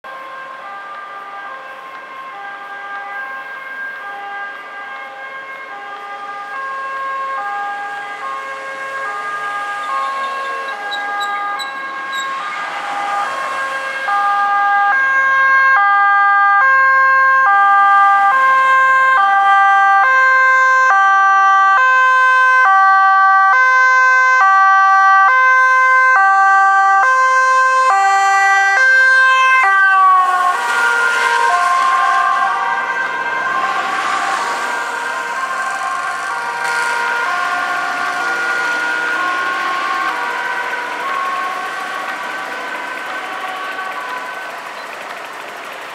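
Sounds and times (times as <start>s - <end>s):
ambulance two-tone siren: 0.0s - 45.9s
vehicle engine and tyre noise: 0.0s - 45.9s.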